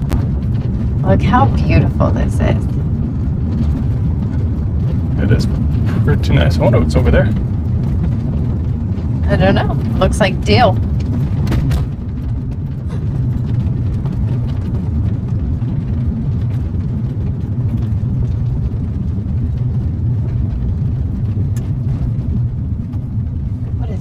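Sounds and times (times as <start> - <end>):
car engine and tyres rumble: 0.0 - 24.0.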